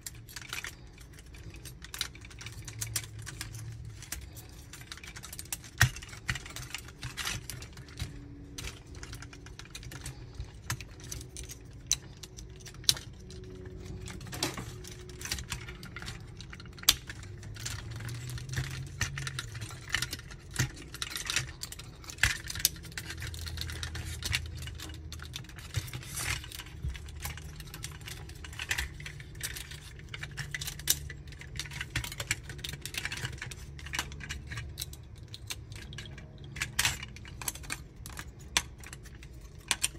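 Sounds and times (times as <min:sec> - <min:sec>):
plastic toy parts clicking: 0:00.0 - 0:39.9.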